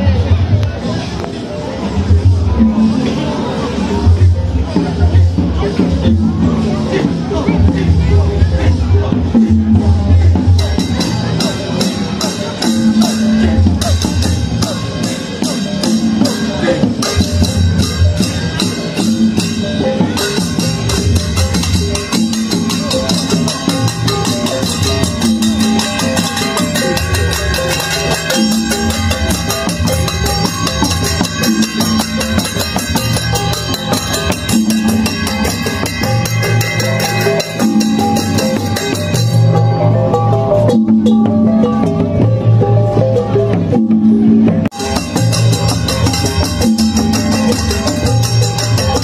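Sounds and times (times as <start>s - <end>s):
gamelan percussion: 0.0s - 49.0s.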